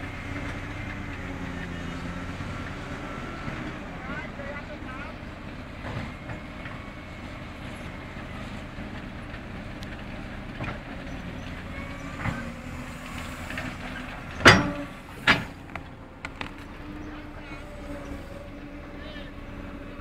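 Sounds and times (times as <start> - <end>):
diesel excavator engine running: 0.0 - 20.0.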